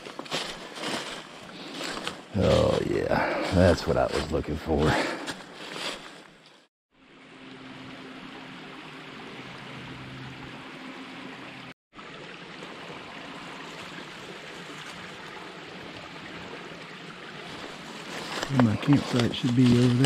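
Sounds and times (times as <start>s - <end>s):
creek babbling over stones: 0.0s - 4.9s, 7.2s - 20.0s.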